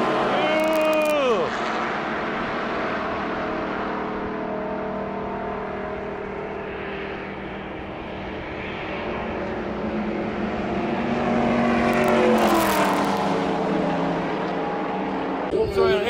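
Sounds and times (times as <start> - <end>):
racing engine passing by: 0.0 - 15.5.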